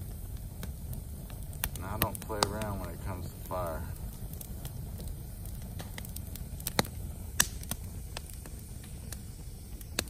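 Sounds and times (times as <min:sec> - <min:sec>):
campfire crackling and popping: 0:00.0 - 0:10.0
low steady rumble: 0:00.0 - 0:10.0.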